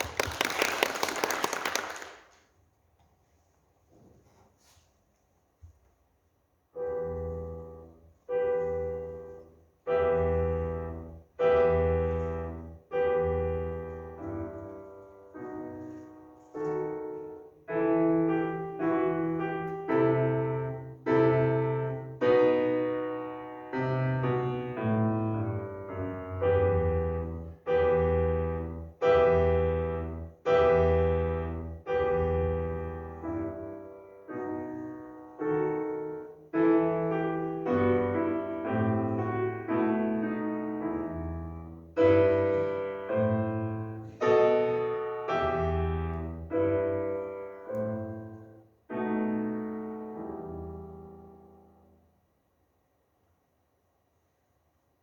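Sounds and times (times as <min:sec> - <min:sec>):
solo piano playing: 0:06.7 - 0:52.0.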